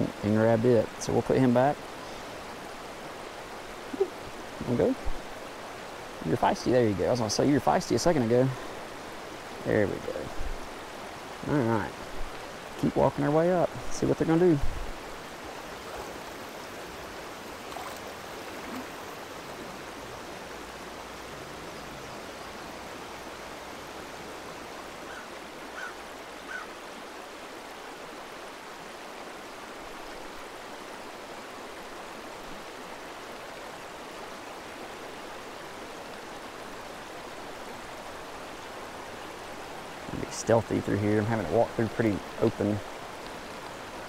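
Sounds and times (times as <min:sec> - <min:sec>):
stream running over rocks: 0:00.0 - 0:44.0.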